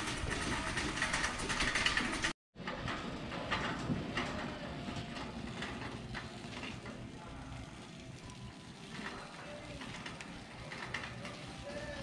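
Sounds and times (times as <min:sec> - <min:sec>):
busy store ambience: 0:00.0 - 0:12.0
shopping cart rolling and rattling: 0:00.0 - 0:12.0.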